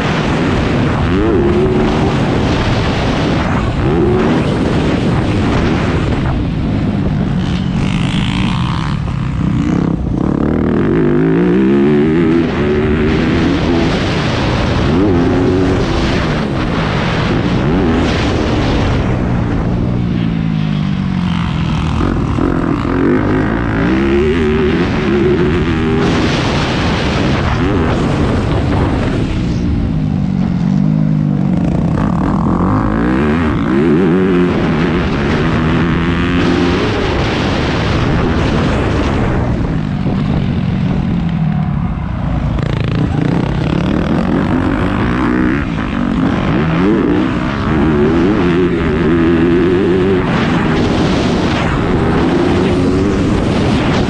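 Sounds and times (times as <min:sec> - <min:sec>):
motocross bike engine revving: 0:00.0 - 0:54.0
wind on microphone: 0:00.0 - 0:54.0.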